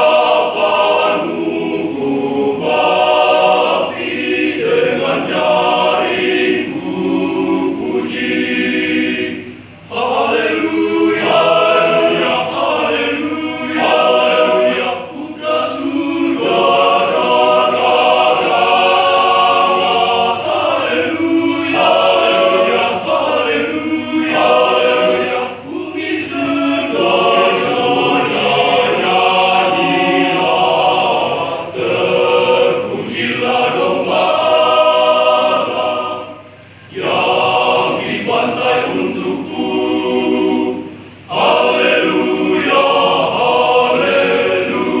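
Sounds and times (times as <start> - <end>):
men's choir singing: 0.0 - 45.0.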